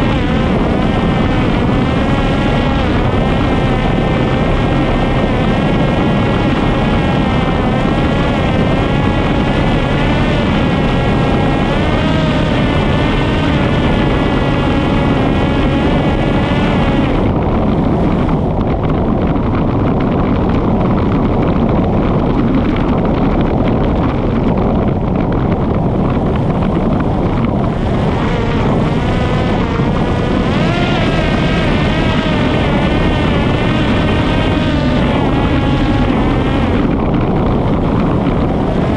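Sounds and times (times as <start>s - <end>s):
drone motor and propeller whining: 0.0s - 38.9s.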